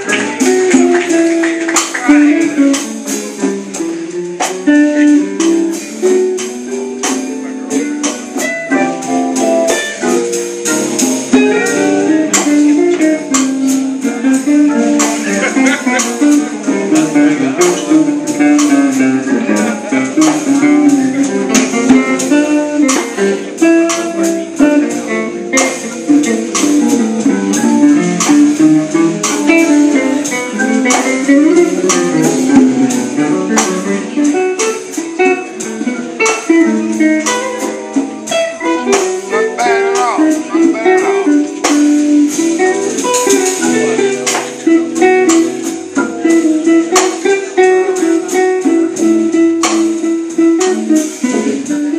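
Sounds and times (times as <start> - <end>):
drums keeping time: 0.0 - 51.9
keyboard chords: 0.0 - 51.9
plucked guitar lines: 0.0 - 51.9.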